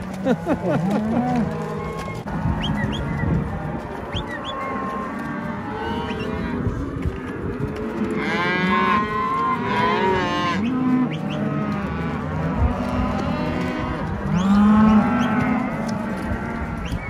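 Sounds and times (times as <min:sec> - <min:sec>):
cattle mooing and bawling: 0:00.0 - 0:17.0.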